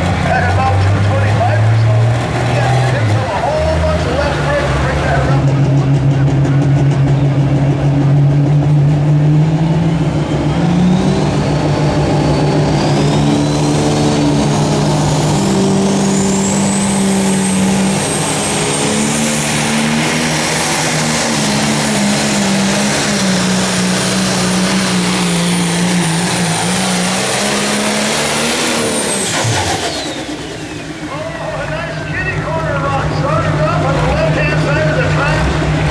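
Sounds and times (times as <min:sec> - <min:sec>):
diesel engine under load: 0:00.0 - 0:35.9
high turbo whine: 0:00.0 - 0:35.9.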